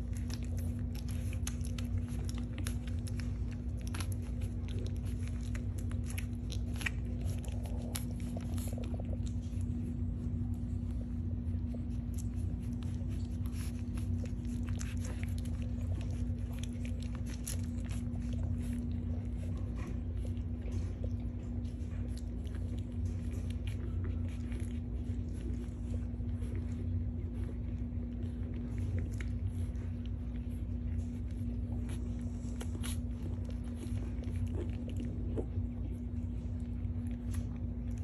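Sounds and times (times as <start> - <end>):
puppies suckling: 0.0 - 38.0
steady low hum: 0.0 - 38.0.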